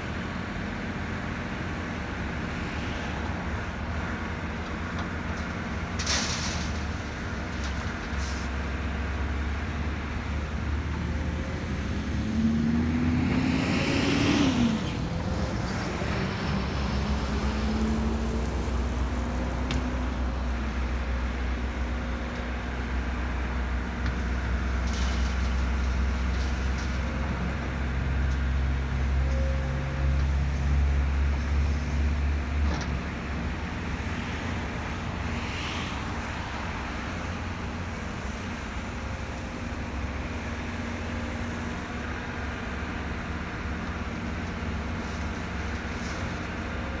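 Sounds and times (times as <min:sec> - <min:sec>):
truck driving past: 0:08.3 - 0:47.0.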